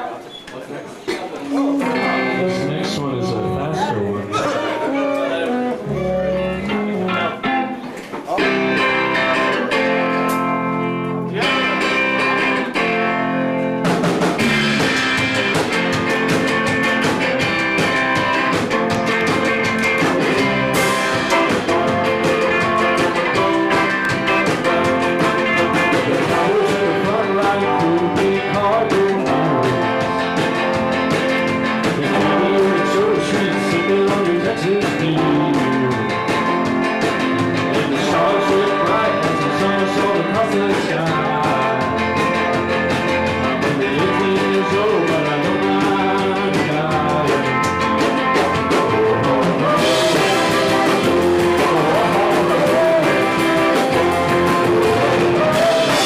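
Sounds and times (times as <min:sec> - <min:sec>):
live rock band playing: 0:01.1 - 0:56.0
electric guitar chords: 0:01.5 - 0:56.0.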